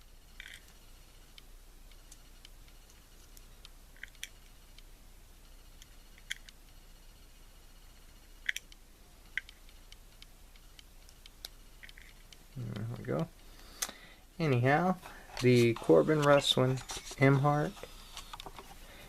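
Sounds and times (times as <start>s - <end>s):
faint steady low hum: 0.0s - 19.0s.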